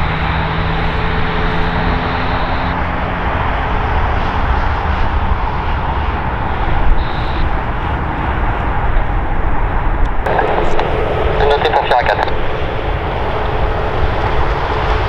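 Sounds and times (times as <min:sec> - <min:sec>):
high engine whine: 0:00.0 - 0:15.0
jet engines rushing: 0:00.0 - 0:15.0.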